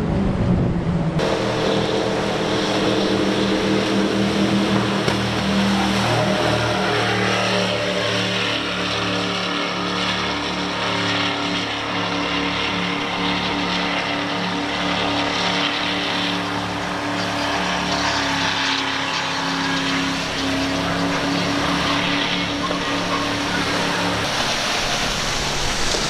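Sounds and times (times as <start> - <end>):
wind: 0.0 - 26.0
motorboat engines running: 1.0 - 26.0.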